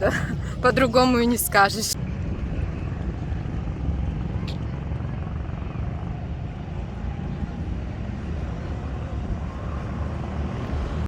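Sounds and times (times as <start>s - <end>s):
low outdoor rumbling: 0.0s - 11.0s.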